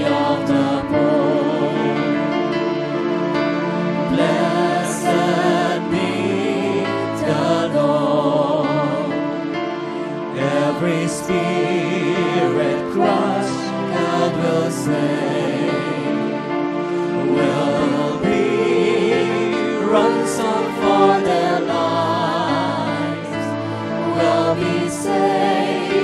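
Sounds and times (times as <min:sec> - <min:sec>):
group singing worship song: 0:00.0 - 0:02.8, 0:03.8 - 0:26.0
sustained instrumental backing: 0:00.0 - 0:26.0.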